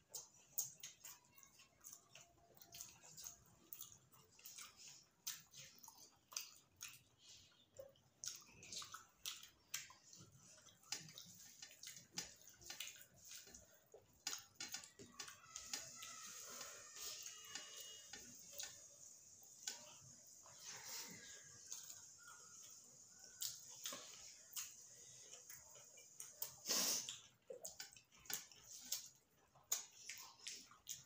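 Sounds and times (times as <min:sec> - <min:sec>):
chewing and wet mouth clicks: 0:00.0 - 0:16.1, 0:21.2 - 0:31.0.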